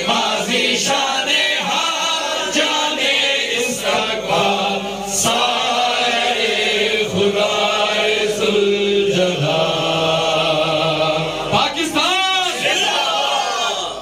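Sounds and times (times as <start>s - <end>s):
men singing in unison: 0.0s - 11.8s.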